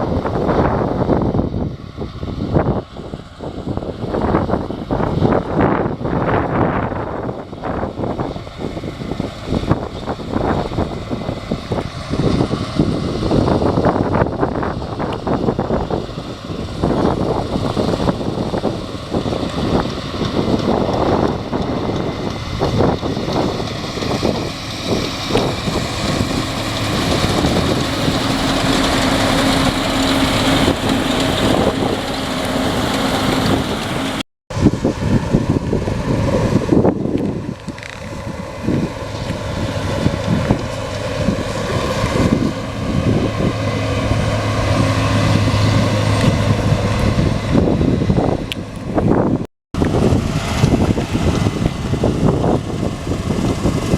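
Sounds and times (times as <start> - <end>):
diesel machinery running: 0.0 - 53.9
wind buffeting microphone: 0.0 - 53.9.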